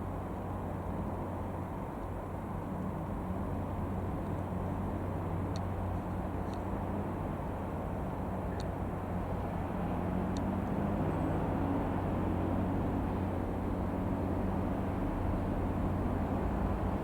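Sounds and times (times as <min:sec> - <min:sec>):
small plane engine and propeller: 0:00.0 - 0:17.0.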